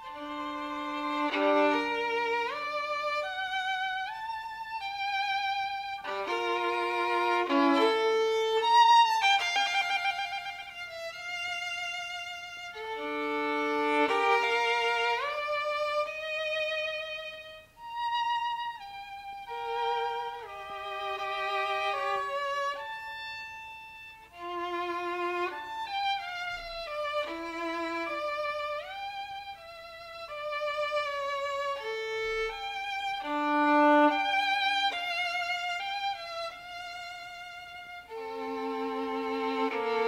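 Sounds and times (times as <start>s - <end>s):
violin melody: 0.0s - 40.0s.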